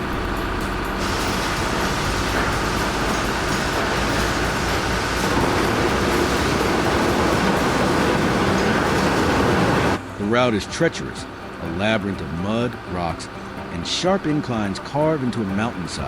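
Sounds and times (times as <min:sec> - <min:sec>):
construction machine drone: 0:00.0 - 0:16.0.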